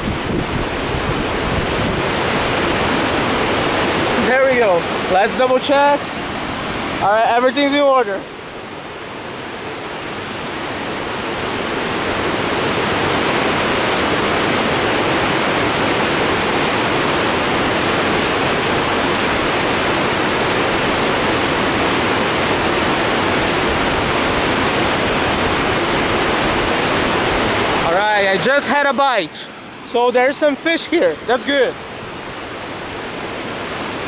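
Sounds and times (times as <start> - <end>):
creek water rushing over dam: 0.0 - 34.0.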